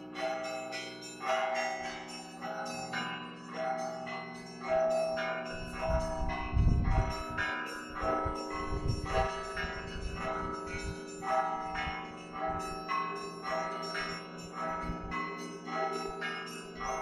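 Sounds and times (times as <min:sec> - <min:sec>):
deep bells humming: 0:00.0 - 0:17.0
small high bells ringing: 0:00.0 - 0:17.0.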